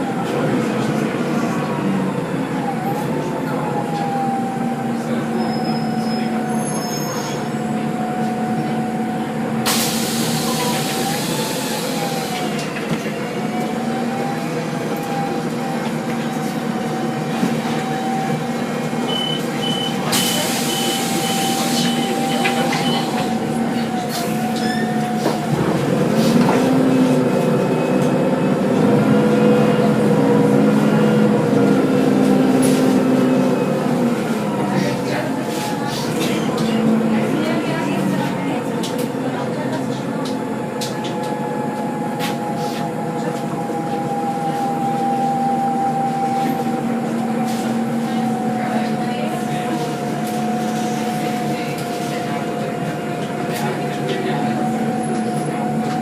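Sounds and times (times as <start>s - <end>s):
bus engine running: 0.0s - 56.0s.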